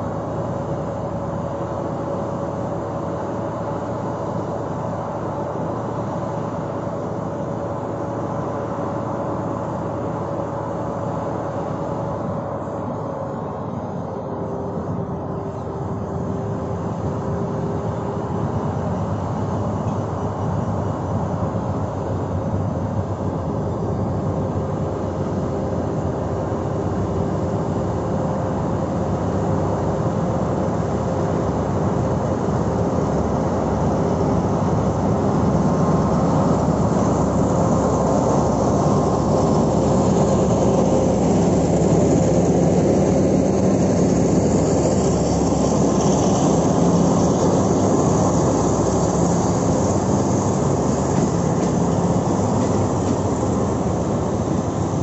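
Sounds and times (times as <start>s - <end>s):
diesel locomotive engine: 0.0s - 55.0s
train coaches rumbling: 0.0s - 55.0s.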